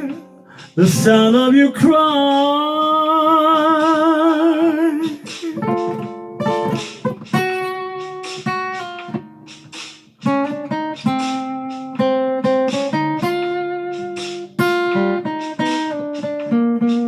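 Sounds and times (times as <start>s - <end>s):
acoustic guitar plucking: 0.0s - 17.0s.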